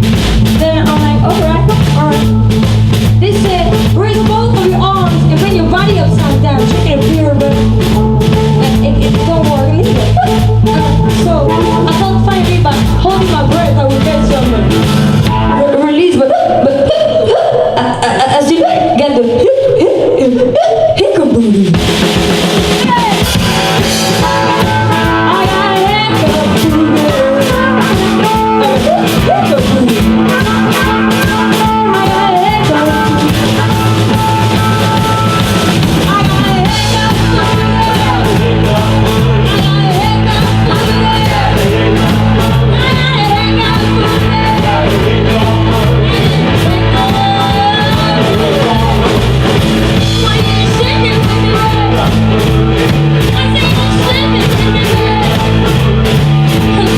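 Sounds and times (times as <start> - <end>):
low bass line: 0.0 - 16.1, 21.8 - 56.9
drum kit beat: 0.0 - 56.9
electric guitar: 0.0 - 56.9.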